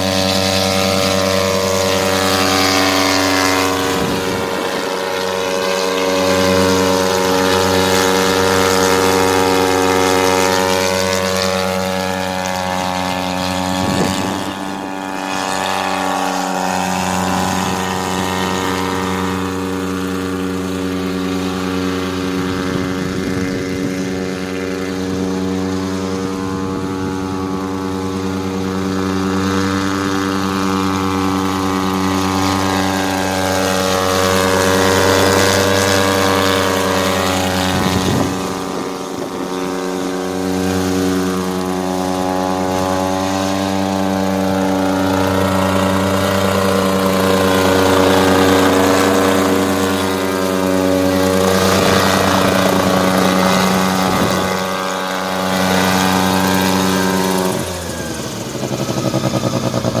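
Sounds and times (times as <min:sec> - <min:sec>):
helicopter engine and rotor drone: 0:00.0 - 1:00.0.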